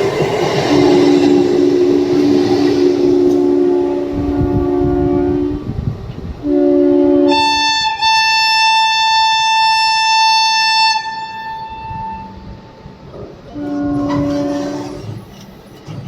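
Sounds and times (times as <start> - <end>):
long high-pitched train horn: 0.6 - 12.8, 13.5 - 15.2
low two-note train horn: 0.7 - 12.8, 13.5 - 15.0.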